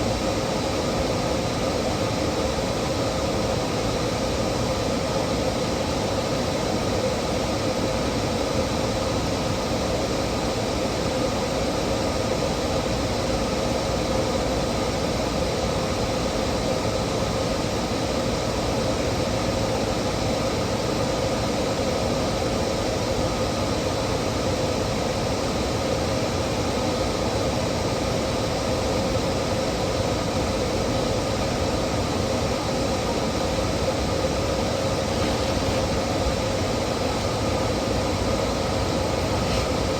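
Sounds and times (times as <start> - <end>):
mechanical hum with hiss: 0.0 - 39.9.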